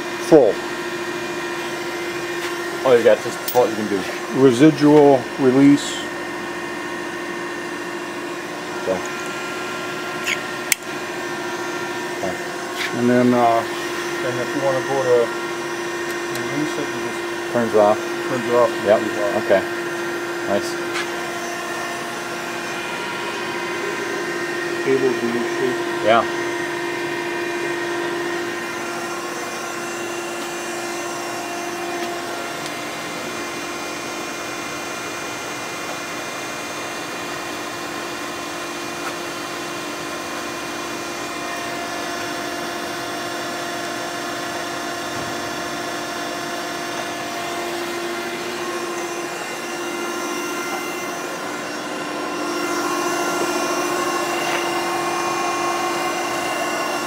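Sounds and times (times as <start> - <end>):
surface grinder motor humming: 0.0 - 57.0.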